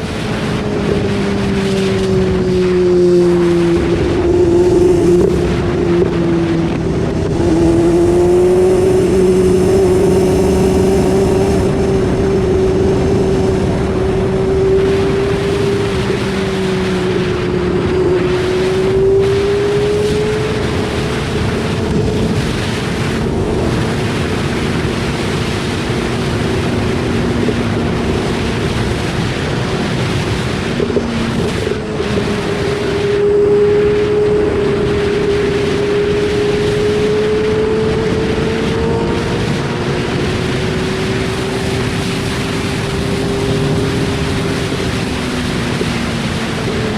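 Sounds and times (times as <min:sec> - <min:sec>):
motorcycle engine cruising: 0:00.0 - 0:46.9
wind noise on microphone: 0:00.0 - 0:46.9.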